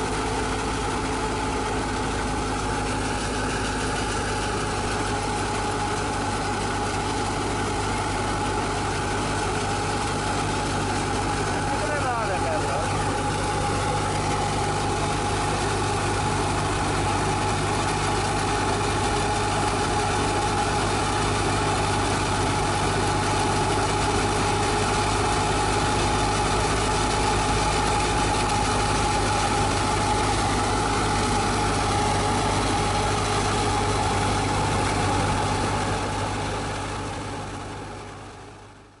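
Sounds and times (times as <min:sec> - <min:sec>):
thresher machine whine: 0:00.0 - 0:38.4
tractor engine drone: 0:00.0 - 0:39.0.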